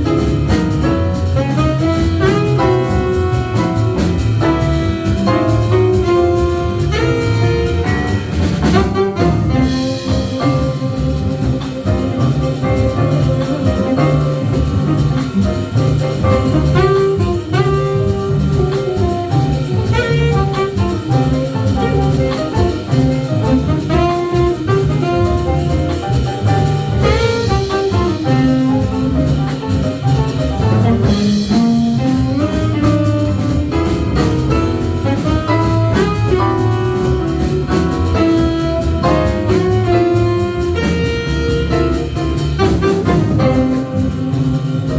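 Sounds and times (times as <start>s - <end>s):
bass: 0.0s - 44.9s
drum kit with cymbals: 0.0s - 44.9s
saxophone melody: 0.0s - 44.9s.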